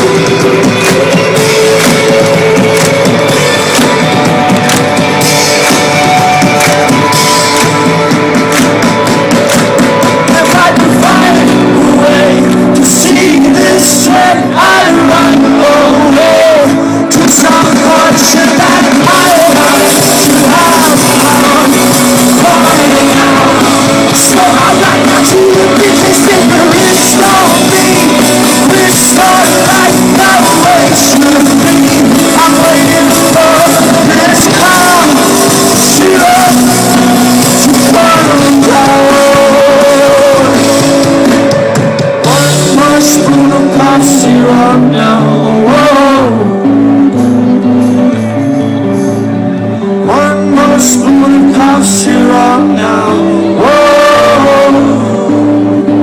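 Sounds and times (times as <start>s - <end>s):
lead vocal singing: 0.0s - 47.5s, 48.2s - 56.0s
rock band playing live: 0.0s - 56.0s.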